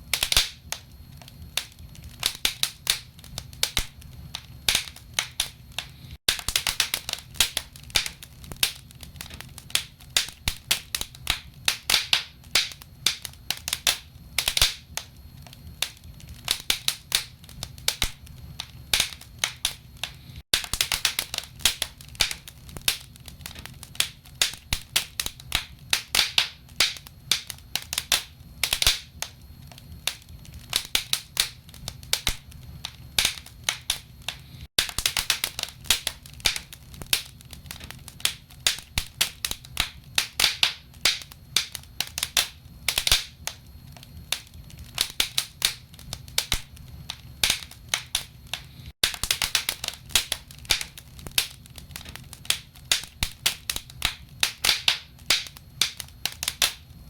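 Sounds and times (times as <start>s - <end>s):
low fire rumble: 0.0s - 57.0s
logs crackling and popping: 0.1s - 57.0s.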